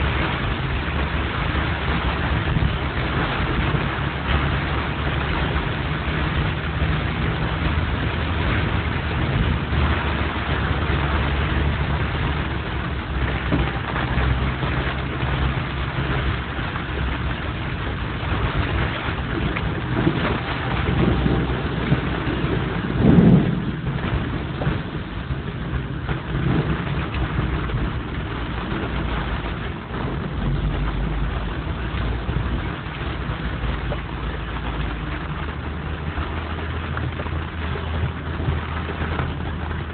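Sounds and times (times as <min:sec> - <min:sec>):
rain hiss and wet road noise: 0:00.0 - 0:39.9
vehicle engines running: 0:00.0 - 0:39.9.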